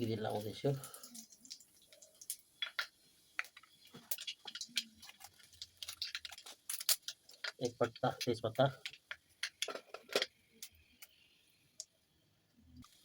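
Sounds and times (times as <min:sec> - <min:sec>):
seeds crackling in hot oil: 0:00.0 - 0:13.0.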